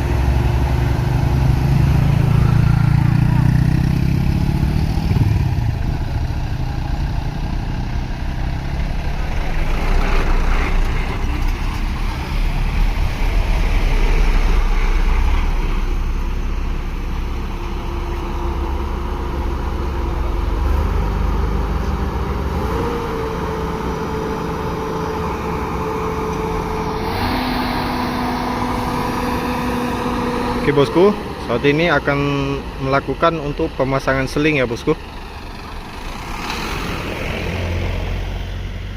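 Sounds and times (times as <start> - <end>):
truck diesel engine rumbling: 0.0 - 38.9.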